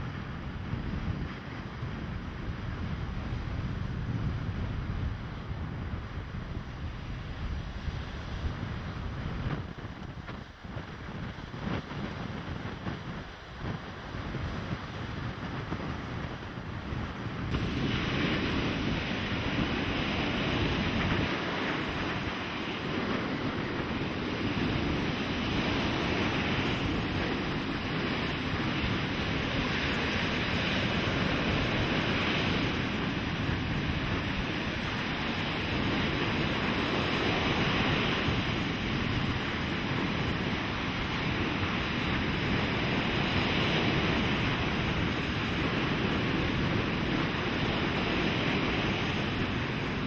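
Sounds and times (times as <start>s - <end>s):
surf breaking on beach: 0.0s - 50.0s.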